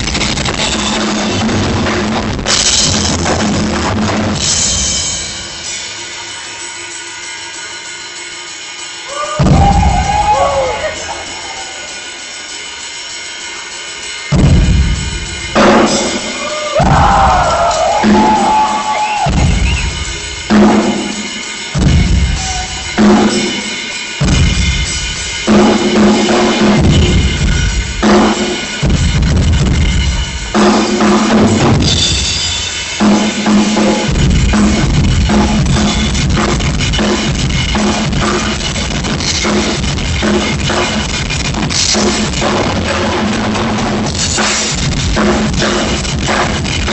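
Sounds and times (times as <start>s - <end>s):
drum kit playing loud: 0.0s - 46.9s.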